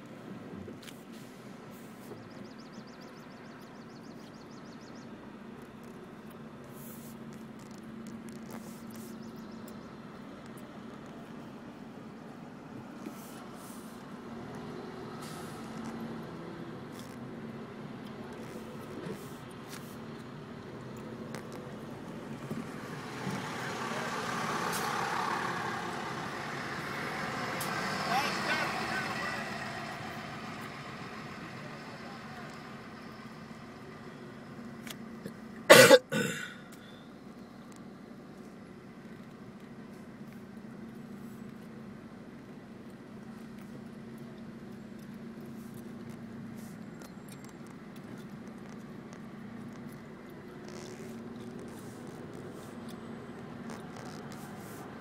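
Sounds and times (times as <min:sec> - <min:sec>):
road noise: 0:00.0 - 0:55.0
vehicle engine hum: 0:00.0 - 0:55.0.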